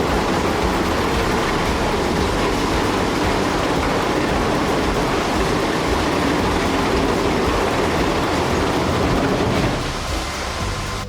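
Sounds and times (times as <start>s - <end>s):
heavy vehicles rumbling: 0.0s - 11.0s.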